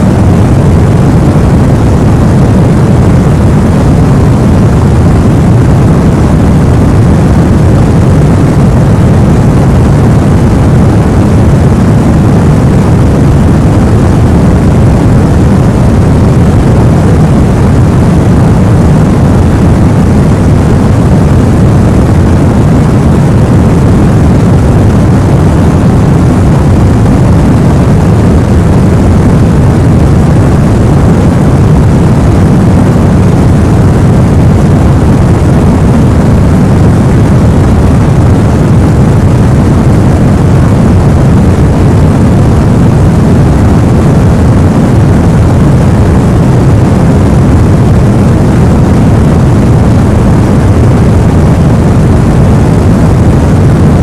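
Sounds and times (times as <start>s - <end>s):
deep rushing noise: 0.0s - 54.0s.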